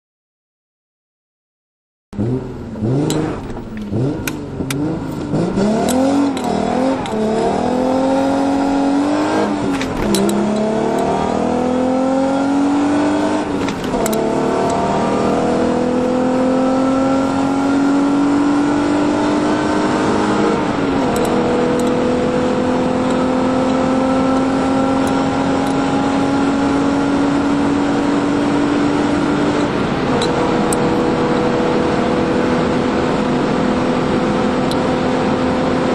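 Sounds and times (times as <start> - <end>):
car engine accelerating hard: 2.2 - 35.9.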